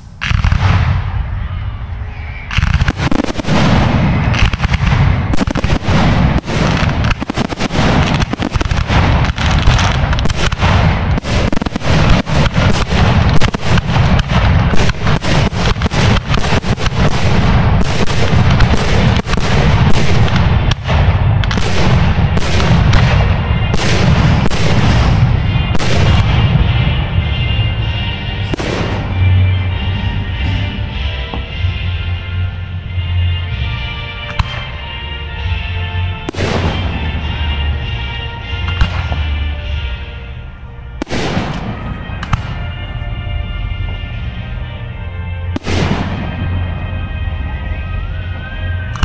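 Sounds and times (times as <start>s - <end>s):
fireworks bangs: 0.0s - 49.0s
low rumble: 0.0s - 49.0s
music: 0.0s - 49.0s.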